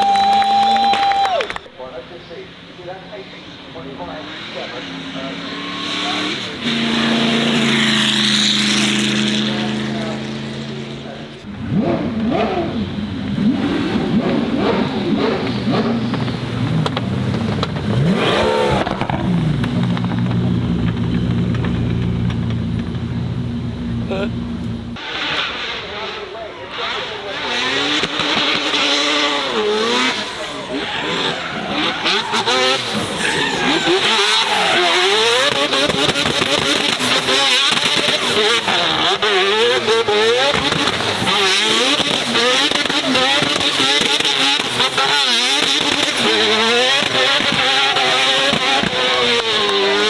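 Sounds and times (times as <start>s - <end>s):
car engine revving hard: 3.7s - 50.0s.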